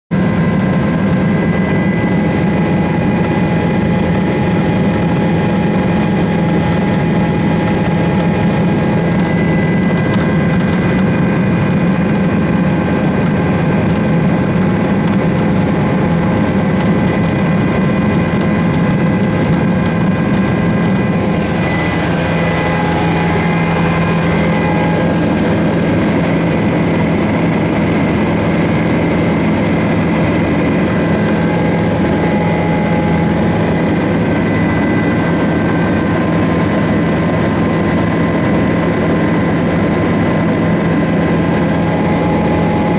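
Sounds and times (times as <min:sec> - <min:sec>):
constant whine: 0:00.1 - 0:42.9
helicopter engine and rotor drone: 0:00.1 - 0:42.9.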